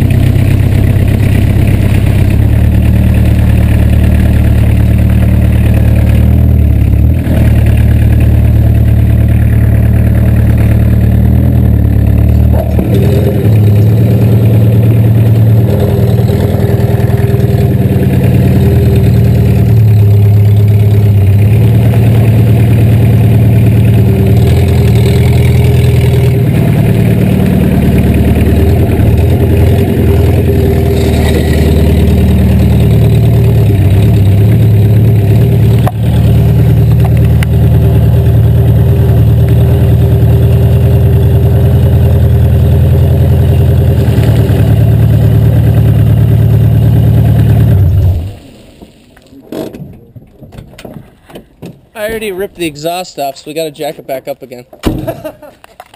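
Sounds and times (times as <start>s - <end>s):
diesel engine revving: 0.0s - 49.1s.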